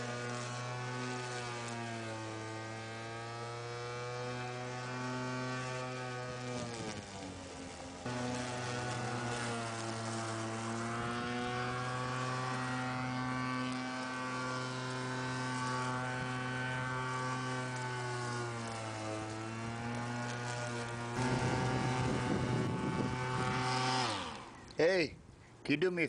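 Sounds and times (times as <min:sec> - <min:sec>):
lawnmower running: 0:00.0 - 0:24.9.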